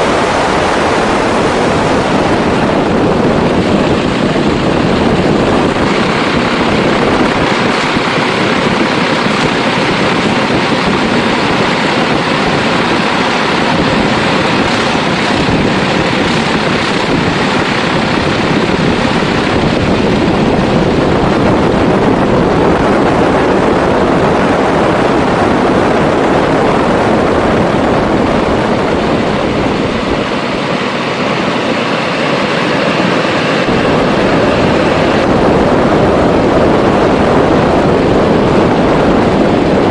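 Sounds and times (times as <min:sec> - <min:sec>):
plane engine and propeller: 0:00.0 - 0:39.9
wind noise on microphone: 0:00.0 - 0:39.9.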